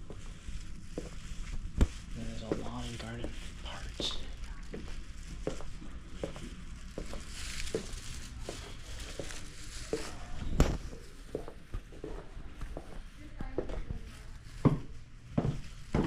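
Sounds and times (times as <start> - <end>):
low steady hum: 0.0 - 16.0
footsteps on hard floor: 1.0 - 3.4, 4.0 - 16.0.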